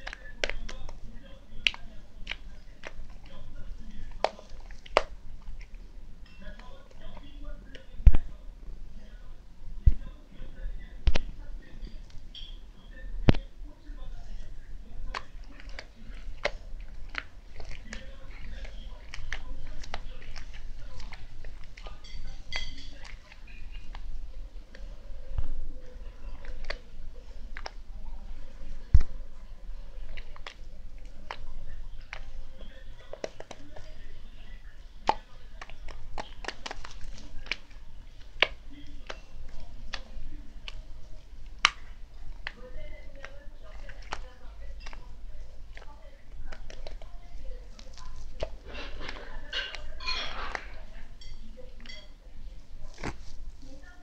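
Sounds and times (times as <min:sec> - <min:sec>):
slime clicking and popping: 0:00.0 - 0:08.3, 0:11.0 - 0:11.3, 0:15.0 - 0:25.4, 0:26.0 - 0:29.2, 0:29.8 - 0:52.1.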